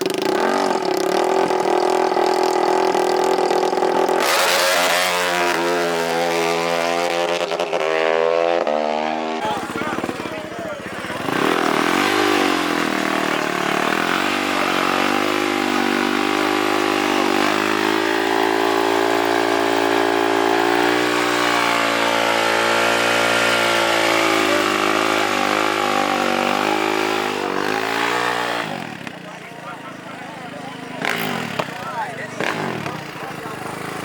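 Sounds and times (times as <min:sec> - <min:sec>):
racing engine at high revs: 0:00.0 - 0:34.0.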